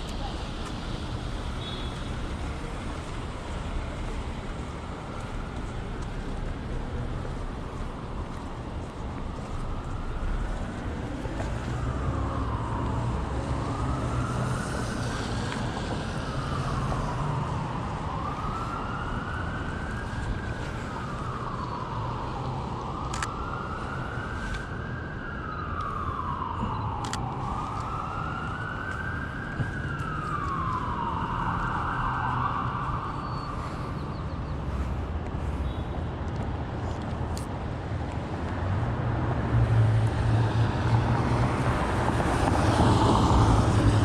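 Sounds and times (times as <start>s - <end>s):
emergency siren wailing: 0.0s - 44.0s
street traffic rumble: 0.0s - 44.0s.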